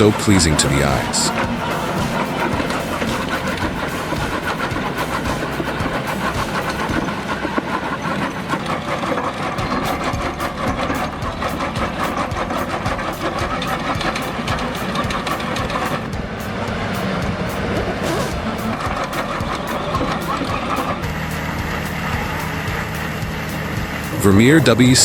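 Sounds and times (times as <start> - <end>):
rapid sharp knocks and clicks: 0.0 - 25.0
wood-cutting machine engine: 0.0 - 25.0.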